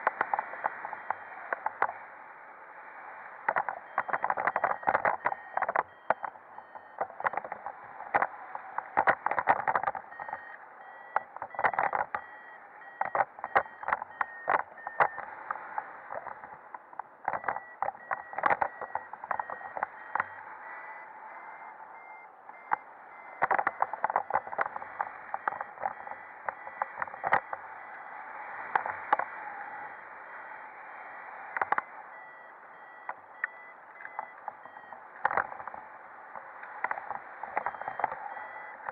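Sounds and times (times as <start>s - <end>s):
variometer beeps: 0.0s - 38.9s.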